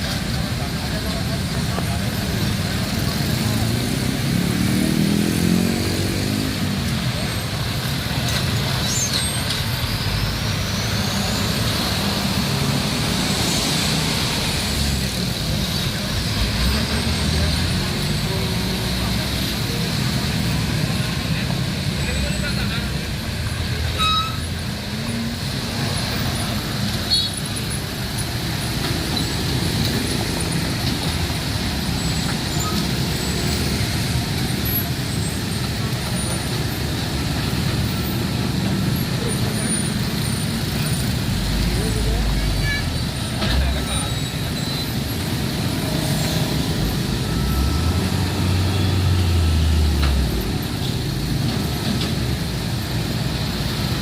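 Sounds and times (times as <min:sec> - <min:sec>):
traffic engines rumbling: 0:00.0 - 0:54.0.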